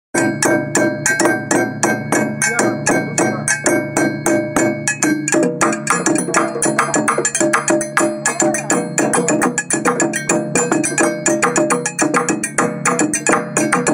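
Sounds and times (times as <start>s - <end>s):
bass drums beaten with sticks: 0.2s - 13.9s
metal bells struck: 0.2s - 13.9s.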